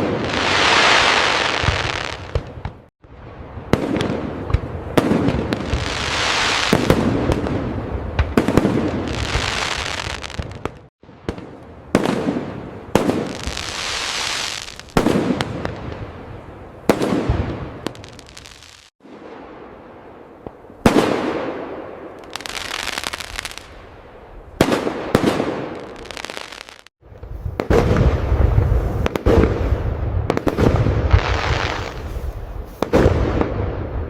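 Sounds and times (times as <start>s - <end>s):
fireworks barrage of booms: 0.0s - 23.9s, 24.6s - 34.0s.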